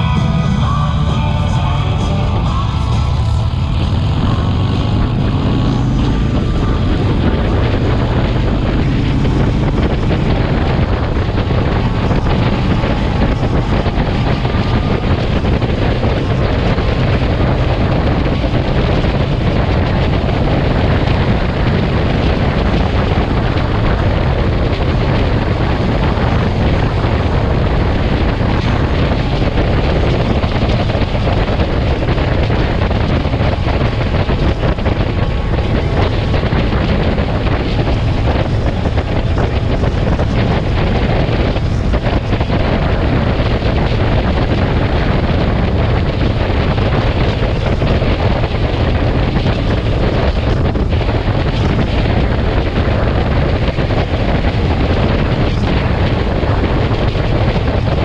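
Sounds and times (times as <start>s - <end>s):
motorcycle engine and road rumble: 0.0s - 58.0s
wind buffeting microphone: 0.0s - 58.0s.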